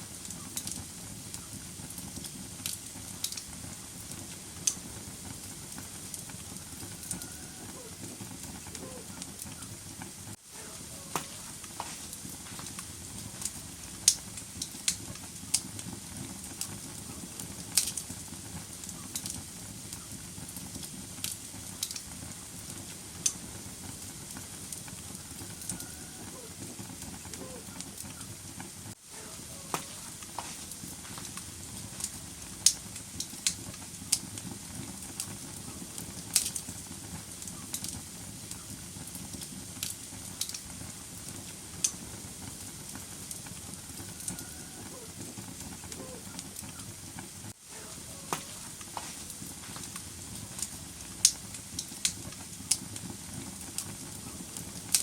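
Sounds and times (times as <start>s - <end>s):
logs crackling and popping: 0.0s - 55.0s
low rush of flame: 0.0s - 55.0s.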